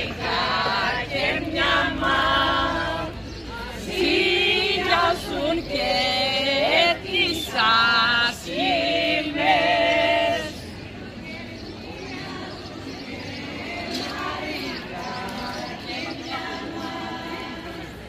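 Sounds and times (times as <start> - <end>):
group singing in unison: 0.0 - 18.0.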